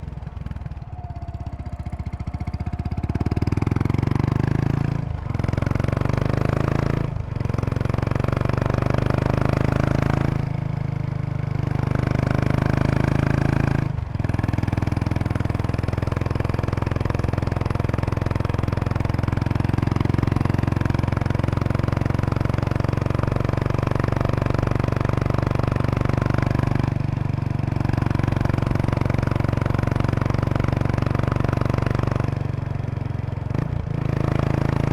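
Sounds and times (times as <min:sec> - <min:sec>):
motorcycle exhaust while riding: 0:00.0 - 0:34.9.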